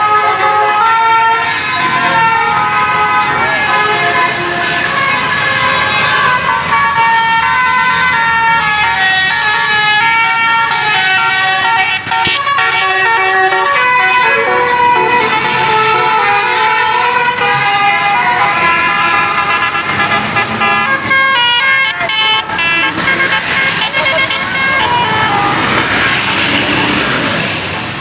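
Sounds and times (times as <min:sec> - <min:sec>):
musical bus air horn: 0:00.0 - 0:07.3, 0:09.1 - 0:26.3.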